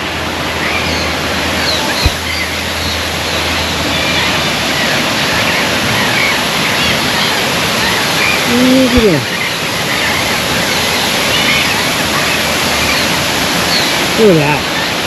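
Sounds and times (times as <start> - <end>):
faint bird calls: 0.0 - 15.0
waterfall rushing: 0.0 - 15.0.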